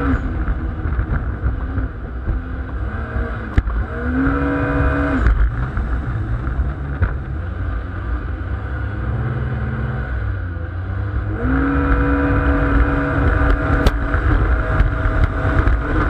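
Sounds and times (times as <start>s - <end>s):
boat engine running at speed: 0.0s - 16.0s
wind: 0.0s - 16.0s.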